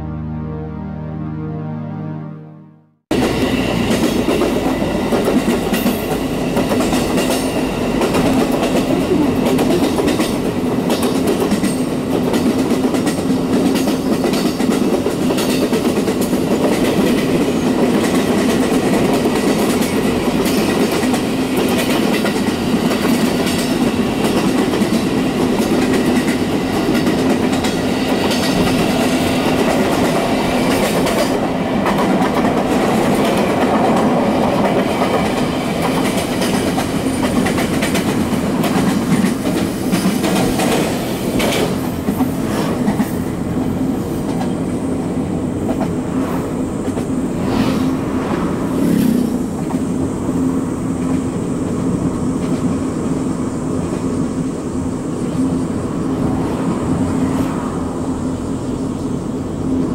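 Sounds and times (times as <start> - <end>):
train hum: 3.1 - 59.9.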